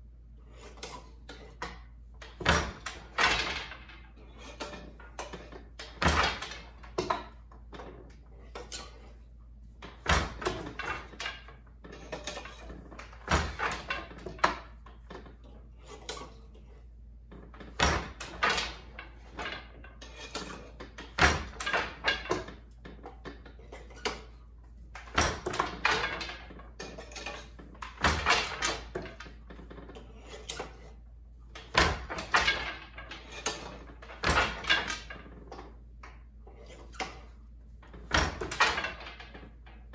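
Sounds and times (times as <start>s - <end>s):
loom shuttles and treadles clattering: 0.0s - 39.9s
loom beater wooden knock: 0.7s - 9.1s, 9.8s - 15.5s, 17.3s - 39.9s.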